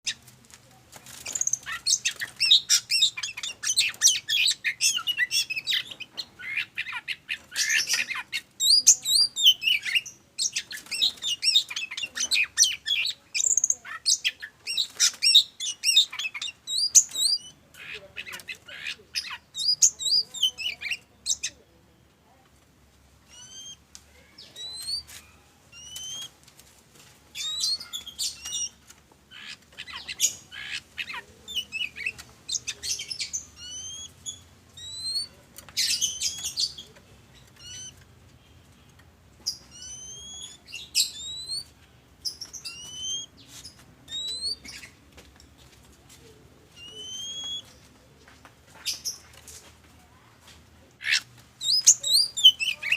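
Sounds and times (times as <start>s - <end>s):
bird singing scratchy phrases: 1.0s - 22.0s, 23.3s - 26.4s, 27.3s - 45.0s, 46.6s - 49.4s, 51.0s - 52.9s.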